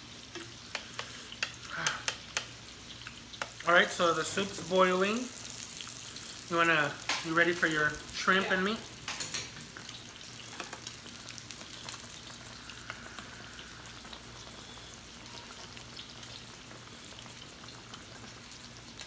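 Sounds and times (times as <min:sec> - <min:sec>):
grill sizzling and crackling: 0:00.0 - 0:19.0.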